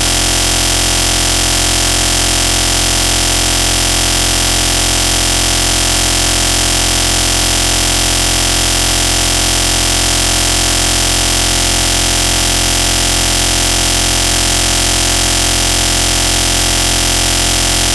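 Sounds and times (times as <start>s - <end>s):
loud static noise: 0.0s - 17.9s.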